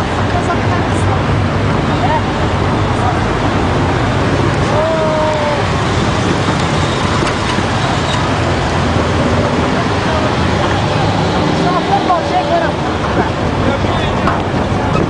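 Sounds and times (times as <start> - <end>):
vehicle and road noise: 0.0 - 15.0.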